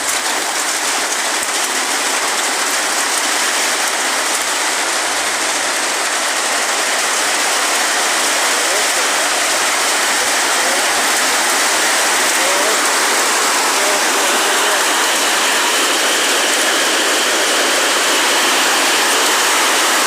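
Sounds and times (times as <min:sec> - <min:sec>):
heavy rain: 0:00.0 - 0:20.0
wind: 0:00.0 - 0:20.0.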